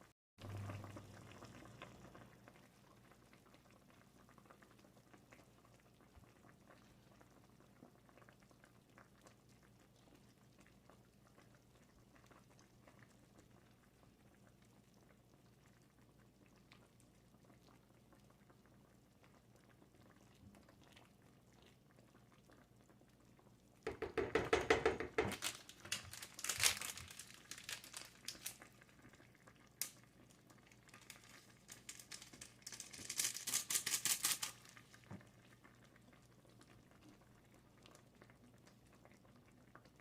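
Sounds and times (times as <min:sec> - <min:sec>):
stew bubbling and popping: 0:00.4 - 0:40.0.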